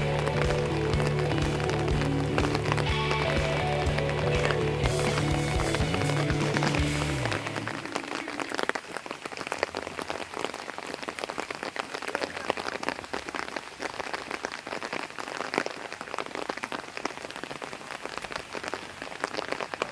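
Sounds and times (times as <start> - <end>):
heavy rain on hard surfaces: 0.0 - 19.9.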